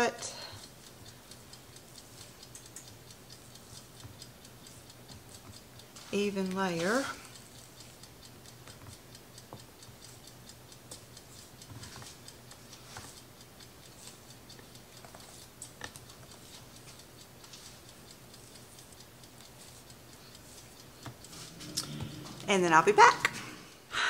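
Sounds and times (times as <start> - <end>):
faint ticking: 0.0 - 24.0
steady low hum: 0.0 - 24.0.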